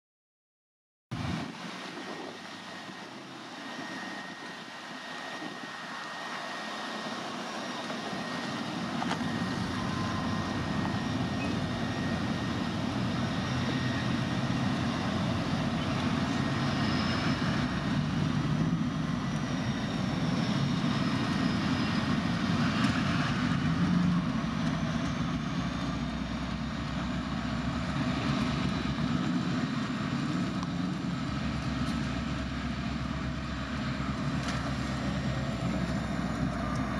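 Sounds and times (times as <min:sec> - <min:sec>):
locomotive engine rumble: 0:01.2 - 0:36.9.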